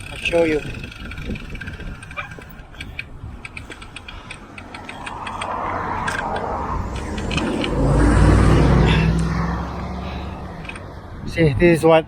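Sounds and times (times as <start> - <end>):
motor vehicle passing: 0.9 - 11.4.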